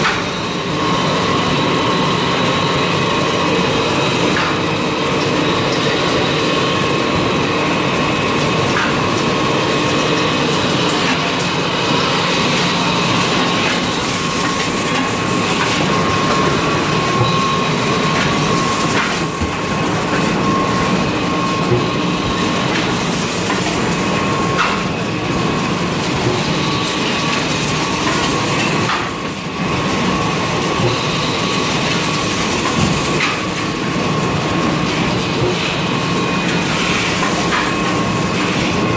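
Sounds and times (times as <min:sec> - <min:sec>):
constant machine whine: 0:00.0 - 0:38.9
packing machine din: 0:00.0 - 0:38.9.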